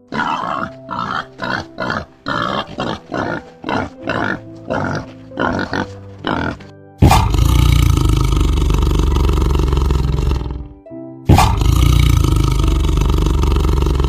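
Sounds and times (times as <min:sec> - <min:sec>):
background music: 0:00.0 - 0:14.0
large animal roaring: 0:00.1 - 0:14.0.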